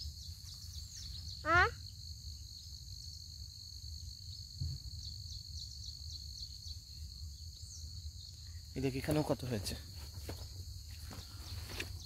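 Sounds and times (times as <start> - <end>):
insect chorus chirping: 0.0 - 12.0.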